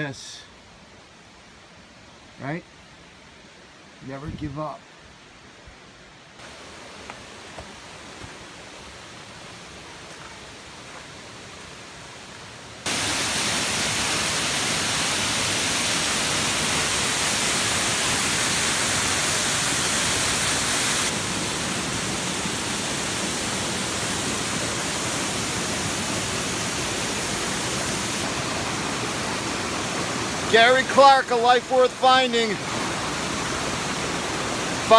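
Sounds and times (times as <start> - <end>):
waterfall rushing: 6.4 - 34.9.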